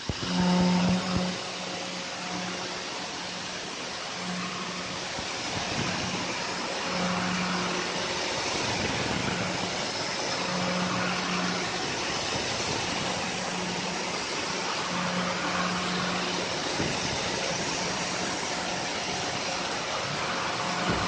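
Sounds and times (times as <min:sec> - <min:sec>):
low machine hum: 0:00.0 - 0:21.0
router milling metal hissing: 0:00.0 - 0:21.0.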